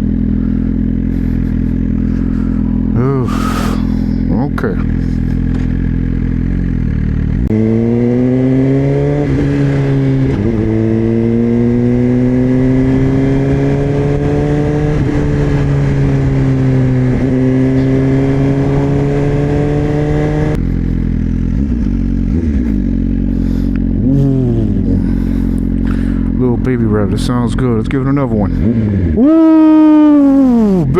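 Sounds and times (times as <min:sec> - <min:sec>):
motorcycle engine revving through gears: 0:00.0 - 0:30.9.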